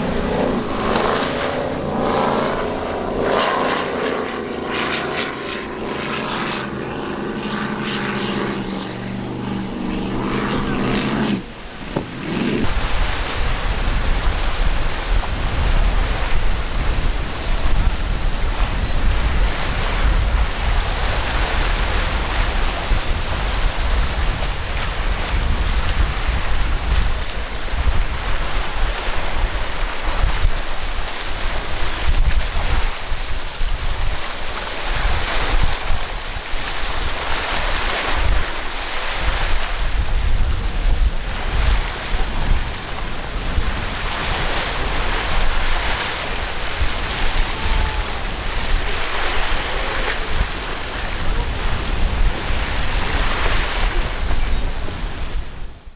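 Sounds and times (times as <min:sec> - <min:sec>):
surf and choppy waves: 0:00.0 - 0:55.9
wind buffeting microphone: 0:00.0 - 0:55.9.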